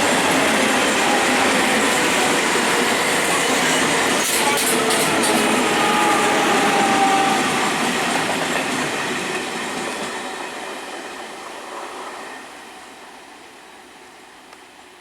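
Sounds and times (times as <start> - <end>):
train running over rails: 0.0 - 15.0.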